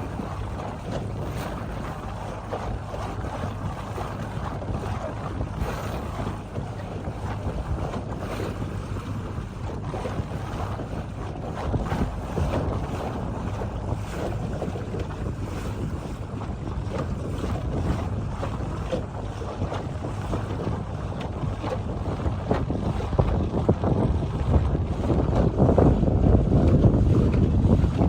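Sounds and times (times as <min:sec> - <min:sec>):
boat motor drone: 0:00.0 - 0:28.0
wind buffeting microphone: 0:00.0 - 0:28.0.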